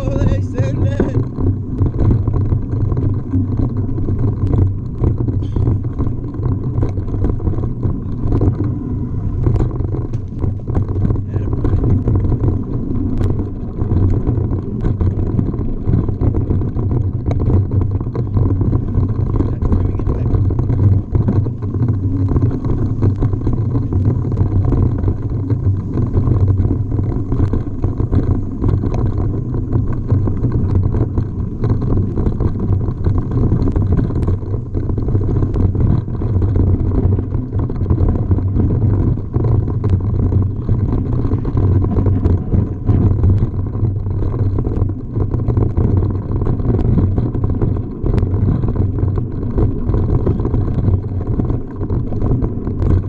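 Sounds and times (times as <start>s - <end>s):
bike clattering over bumps: 0.0s - 53.0s
wind buffeting and tyre noise: 0.0s - 53.0s.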